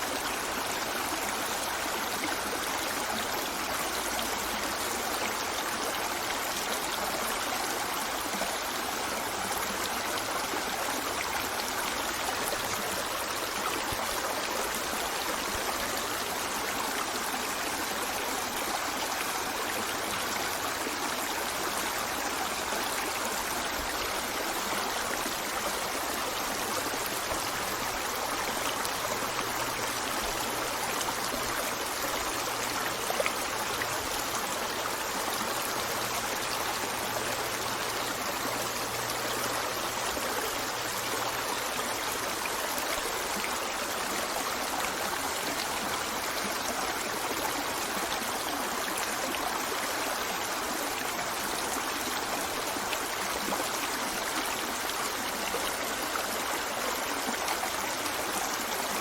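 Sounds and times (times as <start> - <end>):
water running over rocks: 0.0 - 59.0.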